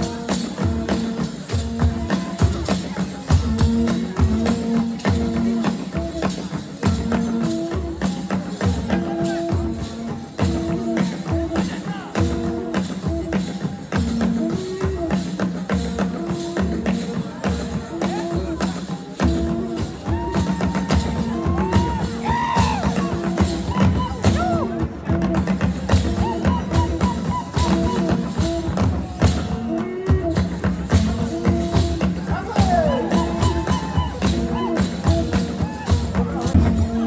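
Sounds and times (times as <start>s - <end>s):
jingling tambourine-like percussion: 0.0s - 37.0s.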